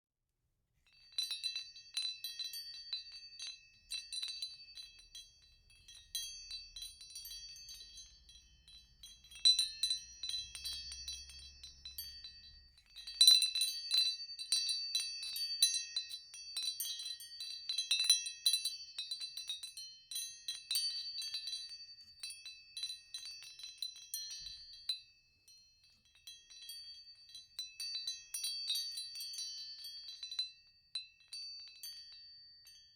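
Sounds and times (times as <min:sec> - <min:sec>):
wind chimes tinkling: 0:01.0 - 0:32.9.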